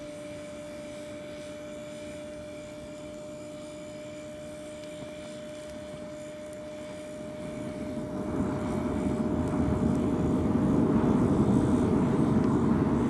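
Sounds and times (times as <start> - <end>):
gas burner hissing: 0.0 - 13.0
thin steady whistle: 0.0 - 13.0.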